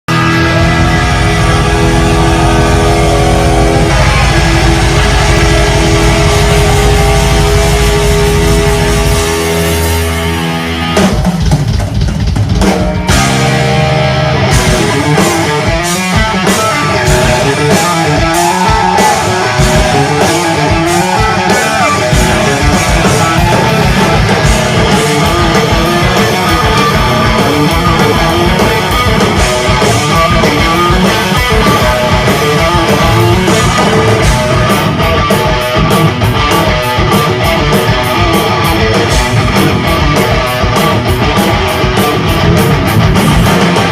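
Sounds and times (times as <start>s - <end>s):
drums: 0.0s - 43.9s
heavy metal band playing live: 0.0s - 43.9s
distorted electric guitar solo: 0.1s - 11.5s, 12.6s - 43.9s.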